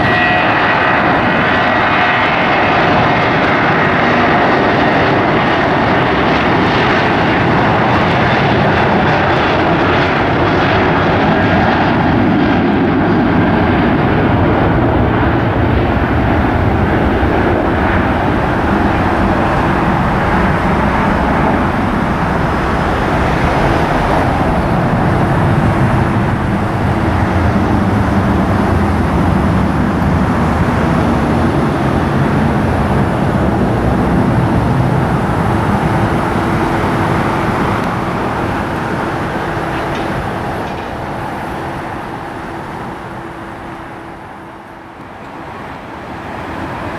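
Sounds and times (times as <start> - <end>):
airliner engines roaring: 0.0 - 46.9.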